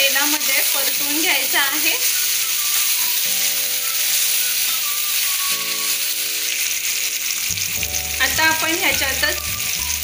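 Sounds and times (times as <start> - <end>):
soft background music: 0.0 - 10.0
vegetables sizzling in hot oil: 0.0 - 10.0.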